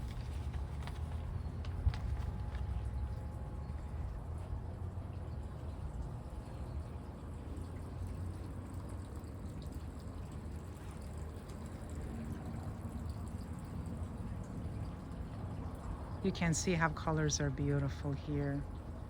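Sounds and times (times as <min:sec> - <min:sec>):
water trickling: 0:00.0 - 0:19.0.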